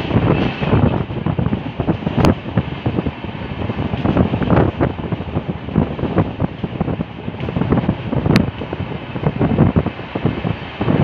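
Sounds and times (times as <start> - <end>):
train running rumble: 0.0 - 11.0
wind buffeting microphone: 0.0 - 11.0.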